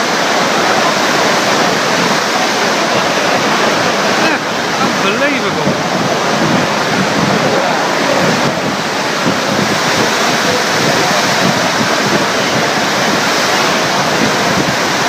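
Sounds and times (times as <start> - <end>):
wind and rain rushing: 0.0 - 15.0
wind buffeting microphone: 0.0 - 15.0.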